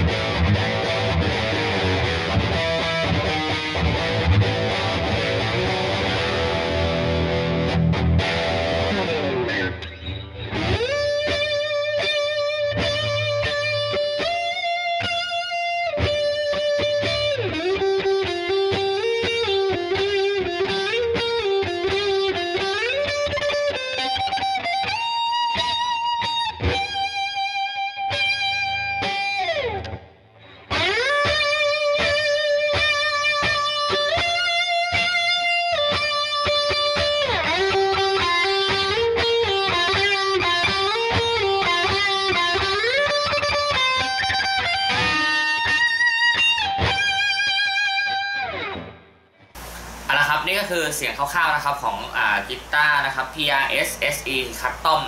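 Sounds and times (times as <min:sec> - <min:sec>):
electric guitar lead line: 0:00.0 - 0:55.0.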